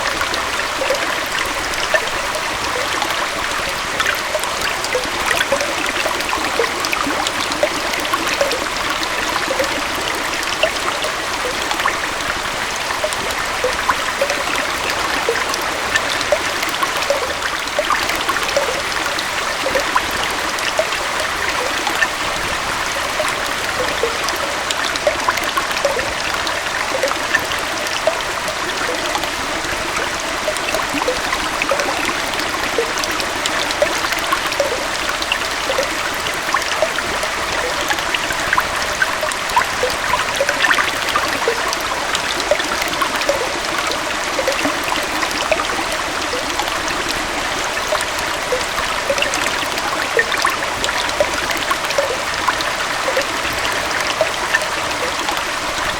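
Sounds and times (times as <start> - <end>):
water gurgling and dripping: 0.0 - 55.9
water splashing over rocks: 0.0 - 55.9.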